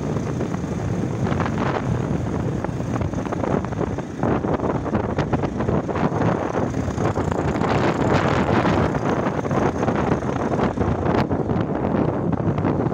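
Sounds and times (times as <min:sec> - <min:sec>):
motorcycle engine running: 0:00.0 - 0:12.9
wind buffeting microphone: 0:00.0 - 0:12.9.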